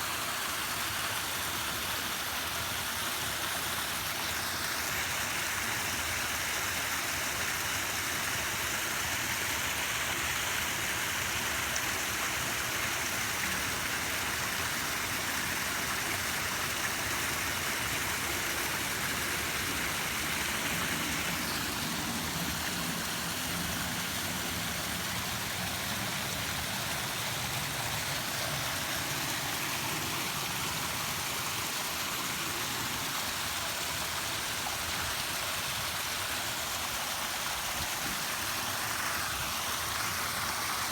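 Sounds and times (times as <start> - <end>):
waterfall rushing: 3.9 - 40.9.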